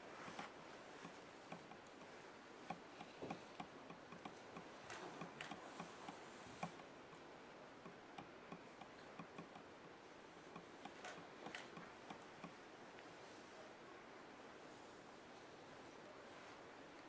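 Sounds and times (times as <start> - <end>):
small irregular ticks and clicks: 0.0 - 13.6, 16.6 - 17.0.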